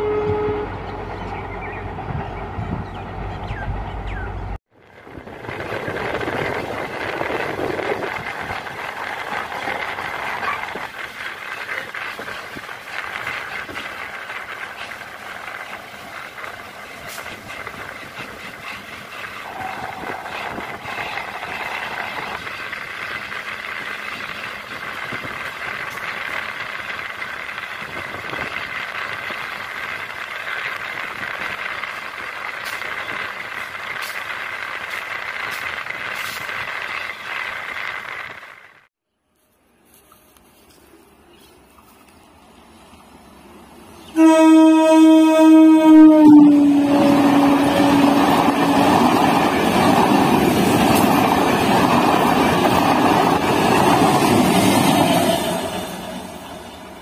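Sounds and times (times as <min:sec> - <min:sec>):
train coach rumbling on track: 0:00.0 - 0:38.9, 0:42.4 - 0:57.0.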